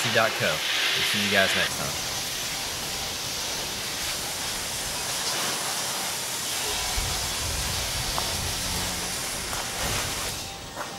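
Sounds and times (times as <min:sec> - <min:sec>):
pressure washer spraying: 0:00.0 - 0:10.9.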